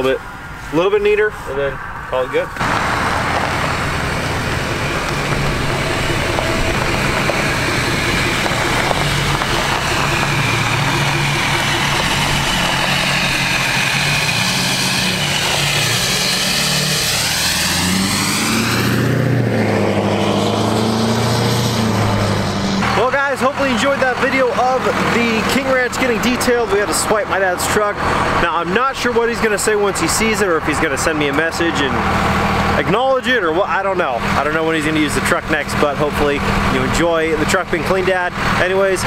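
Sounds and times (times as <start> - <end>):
pickup truck driving past: 1.8 - 39.0.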